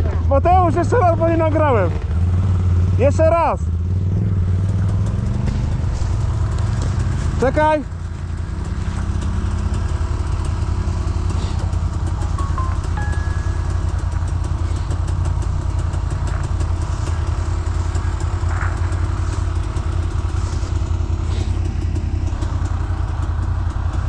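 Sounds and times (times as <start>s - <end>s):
quad engine idling: 0.0s - 24.0s.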